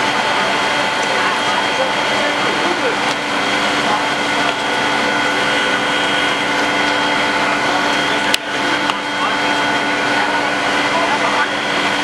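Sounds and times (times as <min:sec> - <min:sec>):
loud drone with held tones: 0:00.0 - 0:12.0.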